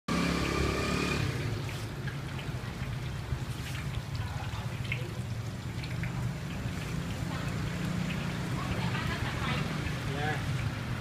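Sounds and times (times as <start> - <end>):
dough sizzling in hot oil: 0.1 - 11.0.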